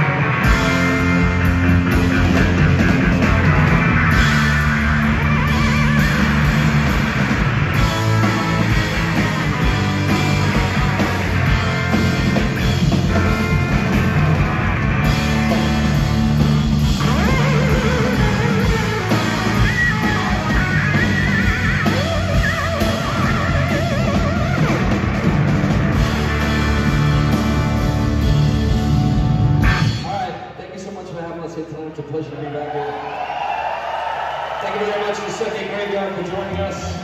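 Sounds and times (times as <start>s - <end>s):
electric guitar: 0.0s - 30.1s
drum kits playing: 0.0s - 30.5s.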